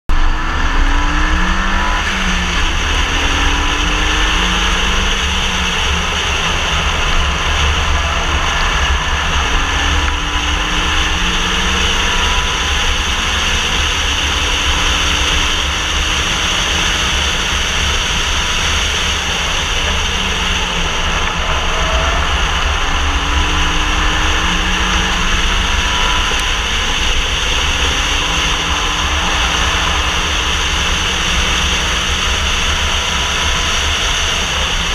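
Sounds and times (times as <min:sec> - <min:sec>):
tyre and road roar: 0:00.0 - 0:34.9
car engine accelerating: 0:00.1 - 0:34.9
wind buffeting: 0:01.2 - 0:34.9.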